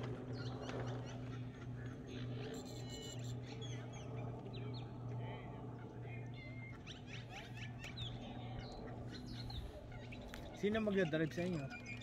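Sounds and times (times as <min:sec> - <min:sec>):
low hum: 0:00.0 - 0:12.0
small birds chirping: 0:00.0 - 0:12.0.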